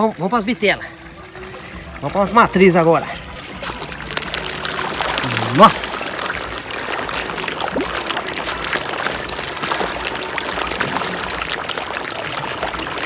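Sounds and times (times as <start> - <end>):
fish thrashing and splashing: 0.5 - 13.0.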